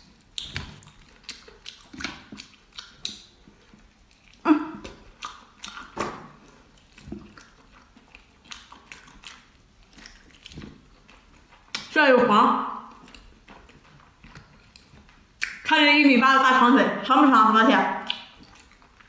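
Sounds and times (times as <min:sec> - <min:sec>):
wet chewing and mouth smacks: 0:00.0 - 0:12.0, 0:12.8 - 0:15.7, 0:18.0 - 0:19.0.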